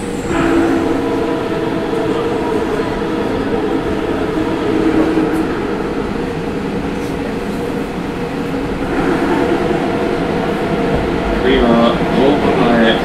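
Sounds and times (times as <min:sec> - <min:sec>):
low hum: 0:00.0 - 0:13.0
train wheels rumbling: 0:00.0 - 0:13.0.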